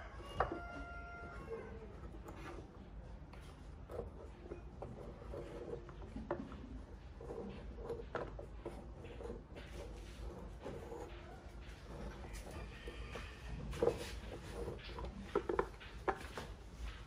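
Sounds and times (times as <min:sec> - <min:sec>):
wood scraping on wood: 0:00.0 - 0:17.0.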